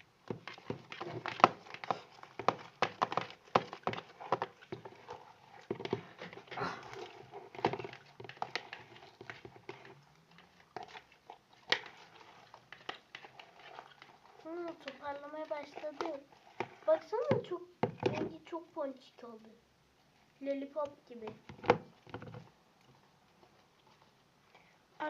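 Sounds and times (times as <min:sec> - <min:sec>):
slime squelching: 0:00.0 - 0:25.0.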